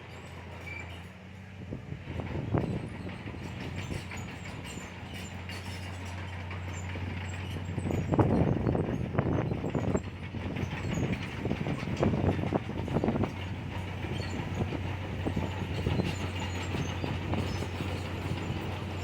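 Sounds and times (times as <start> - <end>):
diesel engine running: 0.0 - 19.0
steel tracks clanking: 0.0 - 19.0.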